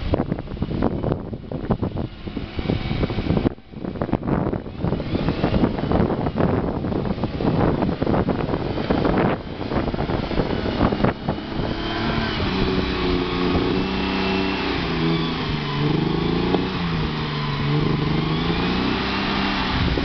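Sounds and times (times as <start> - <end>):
truck engine pulling under load: 1.4 - 20.0.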